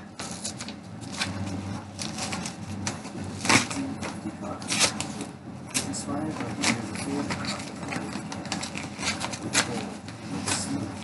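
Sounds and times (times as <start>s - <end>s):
paper envelope rustling: 0.2s - 11.0s.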